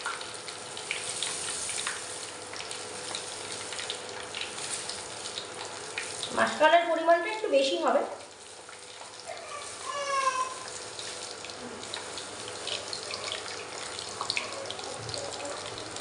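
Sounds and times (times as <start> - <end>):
seeds frying in oil: 0.0 - 16.0.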